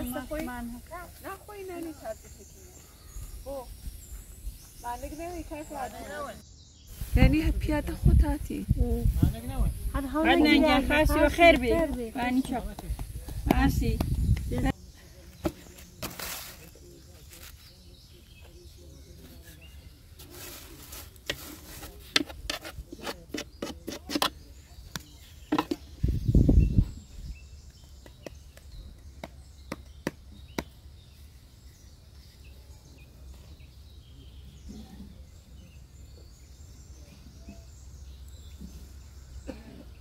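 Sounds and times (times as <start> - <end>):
faint outdoor background: 0.0 - 40.0.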